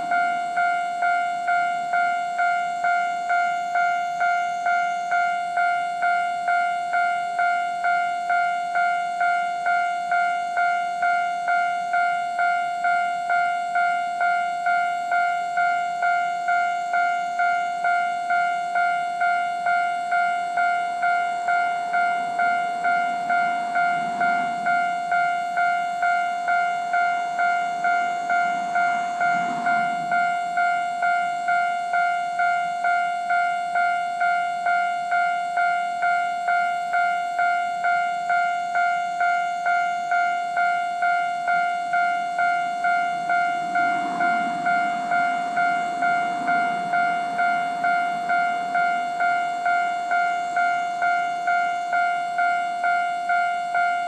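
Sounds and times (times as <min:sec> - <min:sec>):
level-crossing warning bell ringing: 0:00.0 - 0:54.0
low rumble of train: 0:00.0 - 0:54.0.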